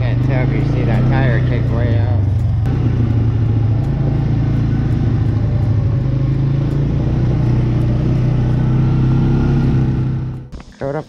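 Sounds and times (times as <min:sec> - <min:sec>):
quad bike engine running: 0:00.0 - 0:10.5.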